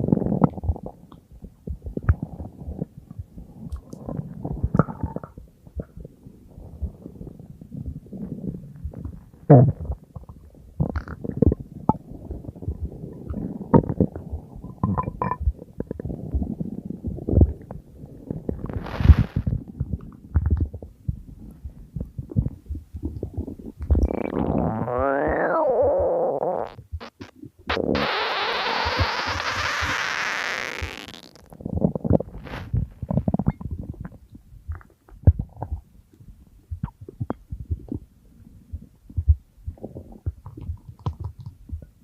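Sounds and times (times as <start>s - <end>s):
stomach growling and gurgling: 0.0s - 42.0s.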